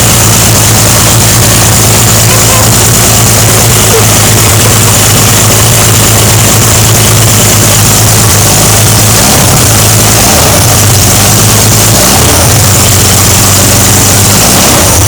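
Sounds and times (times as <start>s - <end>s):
loud engine running steadily: 0.0s - 15.0s.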